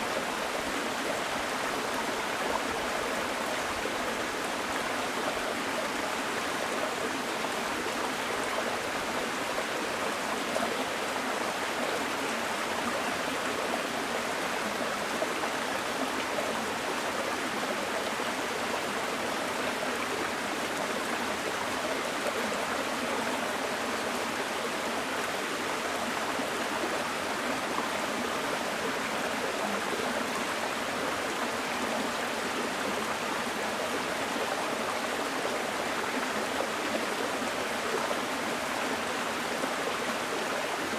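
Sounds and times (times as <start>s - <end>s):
stream babbling over rocks: 0.1s - 40.9s.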